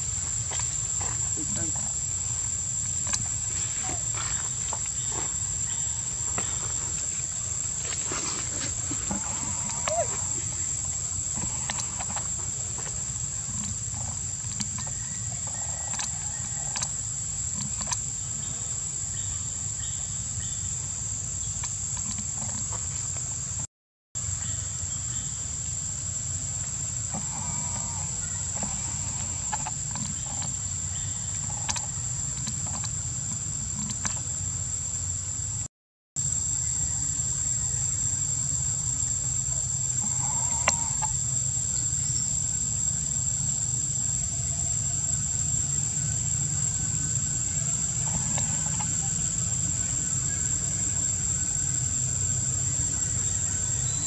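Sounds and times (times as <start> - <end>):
high-pitched insect drone: 0.0 - 23.2, 24.2 - 35.6, 36.2 - 54.0.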